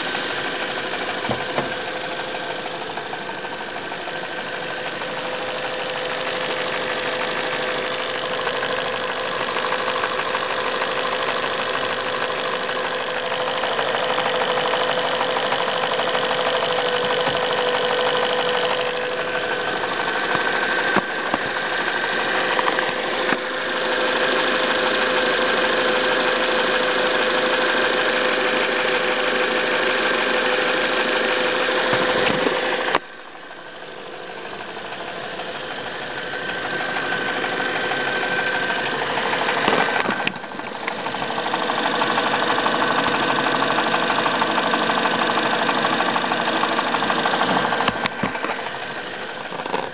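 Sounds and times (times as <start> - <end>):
car engine running with rattle: 0.0 - 49.9.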